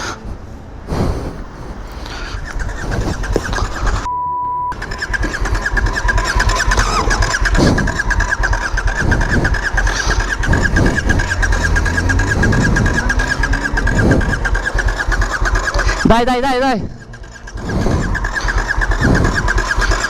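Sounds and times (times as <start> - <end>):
motorcycle starter cranking engine: 2.0 - 4.1, 4.7 - 20.0.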